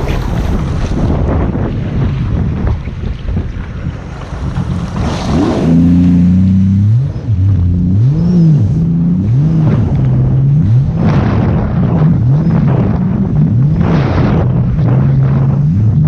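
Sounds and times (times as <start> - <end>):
jet ski engine revving: 0.0 - 16.0
water and wind bursts: 0.0 - 16.0.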